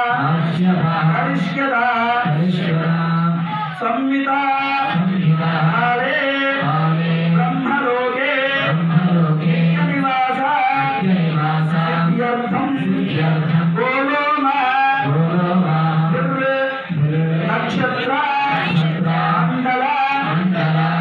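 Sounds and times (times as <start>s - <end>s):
men chanting: 0.0s - 21.0s.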